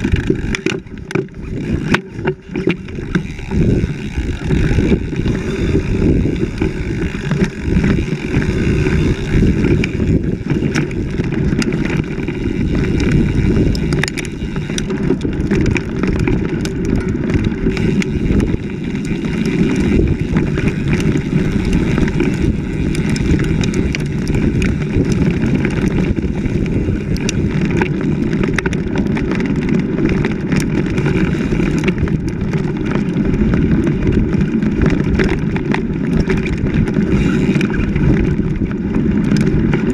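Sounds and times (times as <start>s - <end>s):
bike rattling over roots: 0.0s - 39.9s
tyres rumbling on dirt trail: 0.0s - 39.9s
wind on microphone: 0.0s - 39.9s.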